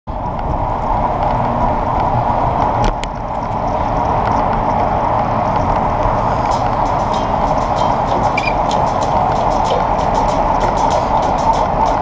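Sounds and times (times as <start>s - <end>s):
bicycle tyre noise on pavement: 0.1s - 12.0s
wind rushing: 0.2s - 12.0s.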